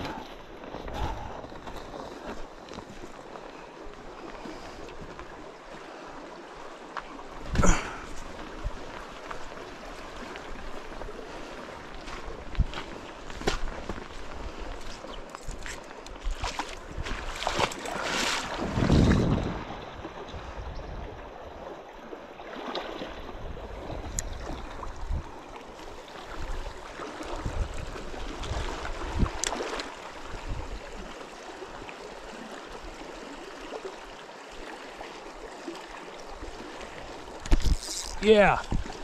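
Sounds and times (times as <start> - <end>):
river water rushing: 0.0 - 20.4, 21.2 - 39.0.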